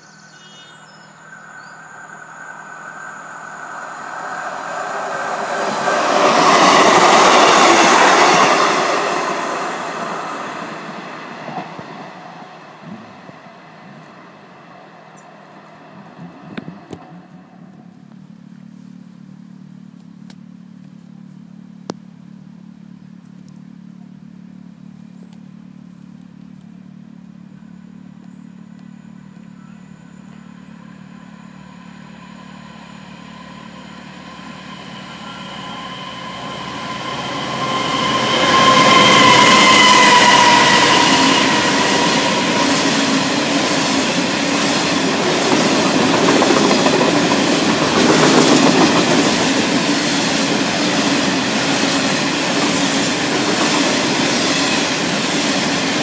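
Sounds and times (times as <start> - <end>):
wagon wheels rumbling on rails: 0.0 - 18.4, 28.9 - 56.0
diesel locomotive engine: 0.0 - 56.0.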